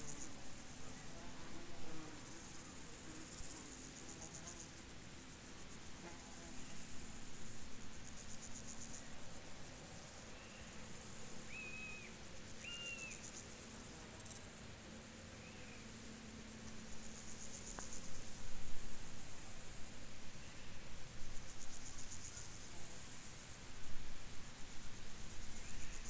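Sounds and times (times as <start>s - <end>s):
insects chirping in trills: 0.0s - 26.0s.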